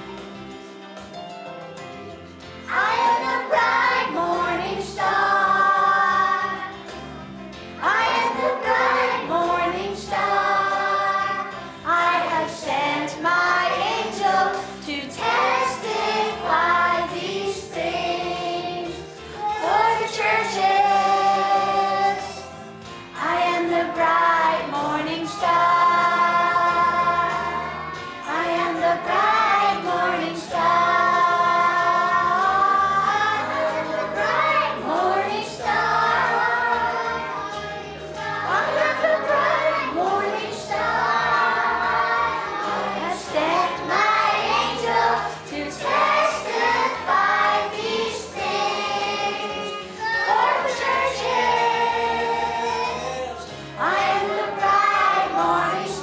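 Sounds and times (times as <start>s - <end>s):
children's choir singing: 2.6s - 56.0s.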